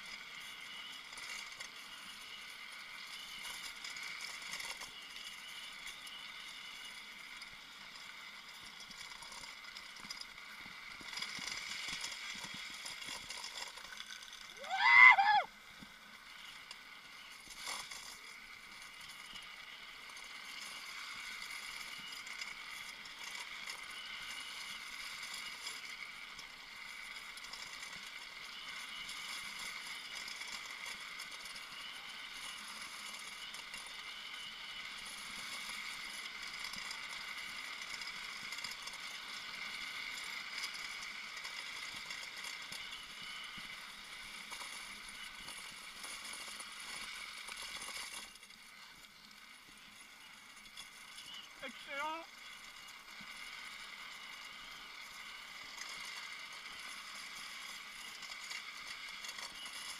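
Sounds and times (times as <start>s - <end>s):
wheels hissing on asphalt: 0.0s - 59.9s.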